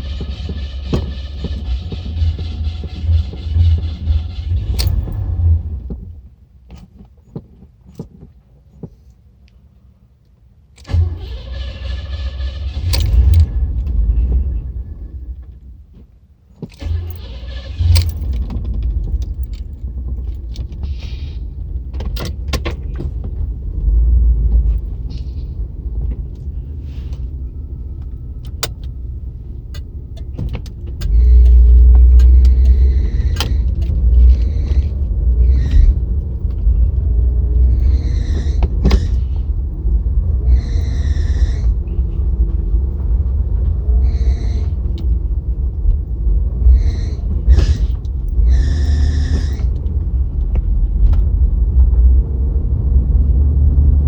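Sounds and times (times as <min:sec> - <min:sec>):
car engine struggling to run: 0:00.0 - 0:06.3, 0:10.8 - 0:15.9, 0:16.7 - 0:54.0.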